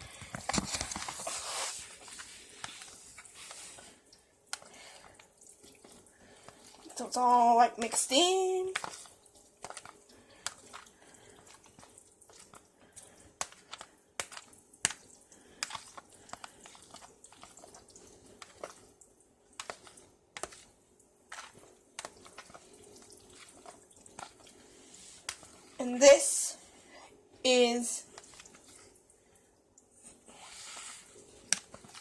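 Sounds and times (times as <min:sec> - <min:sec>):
wet noodle sounds: 0:00.8 - 0:27.0, 0:27.8 - 0:32.0.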